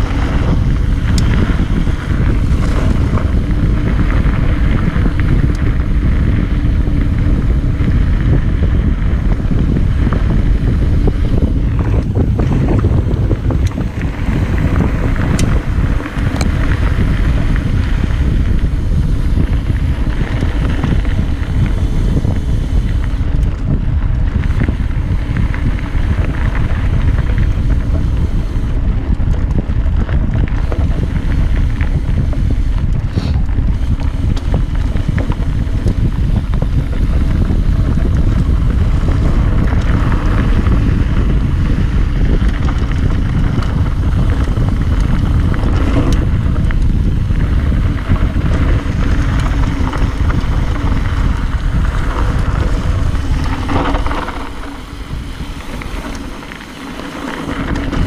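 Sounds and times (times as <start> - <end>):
bike clicks and rattles: 0.0 - 58.0
bike tyres rolling on dirt: 0.0 - 58.0
wind buffeting microphone: 0.0 - 58.0.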